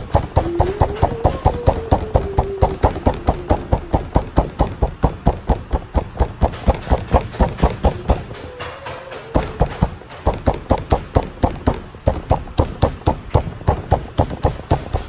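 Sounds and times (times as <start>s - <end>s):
hand patting dough: 0.0s - 8.6s, 9.3s - 15.0s.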